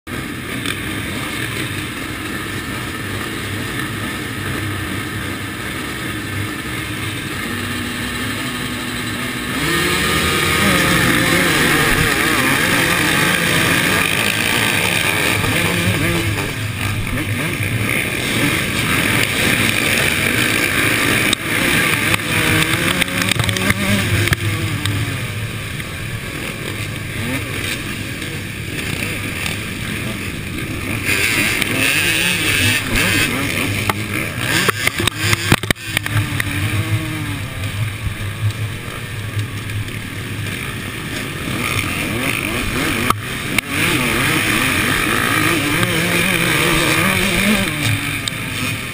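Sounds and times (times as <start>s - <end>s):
motocross bikes racing: 0.1s - 48.9s.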